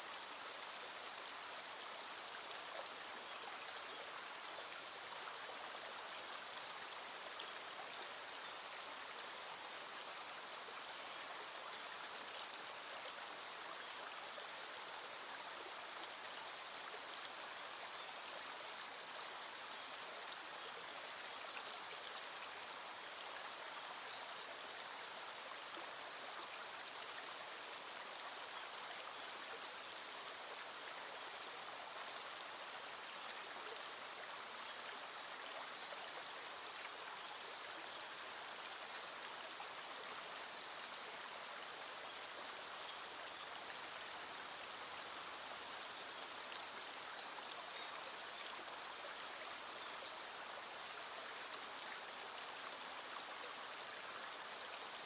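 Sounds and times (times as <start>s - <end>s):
small stream flowing: 0.0s - 55.0s.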